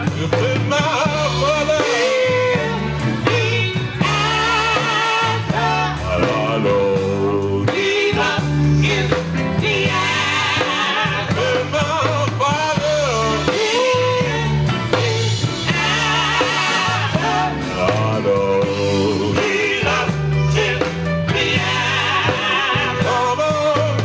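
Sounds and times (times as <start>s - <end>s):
bass line: 0.0s - 24.0s
gospel group singing: 0.0s - 24.0s.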